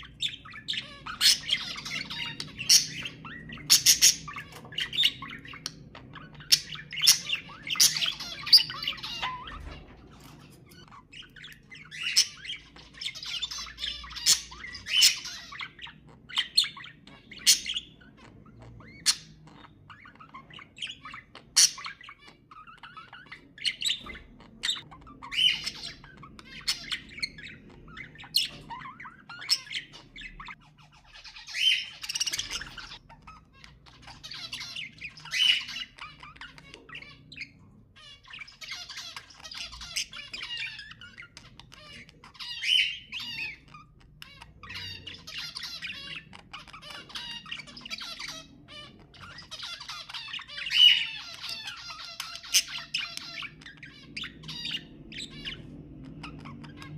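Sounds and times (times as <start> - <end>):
budgerigars chattering and squawking: 0.0 - 56.9.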